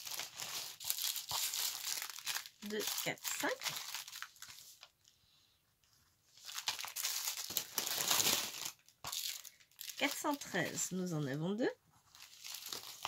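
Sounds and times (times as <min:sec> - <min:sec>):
plastic sachets crinkling: 0:00.0 - 0:05.1, 0:06.3 - 0:13.0.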